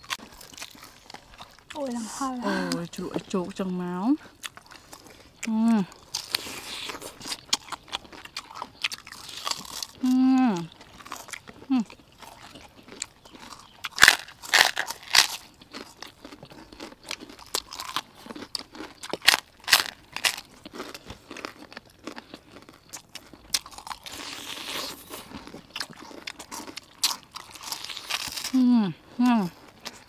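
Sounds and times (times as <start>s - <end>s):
crunchy bites and chewing: 0.0s - 30.0s.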